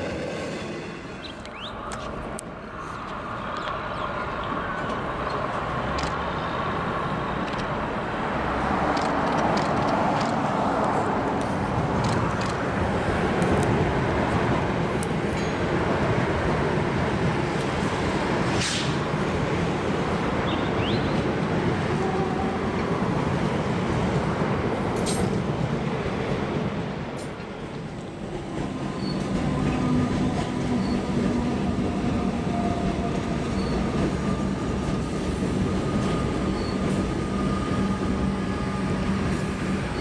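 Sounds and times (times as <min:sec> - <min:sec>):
road traffic: 0:00.0 - 0:40.0
train rumbling over bridge: 0:00.0 - 0:40.0.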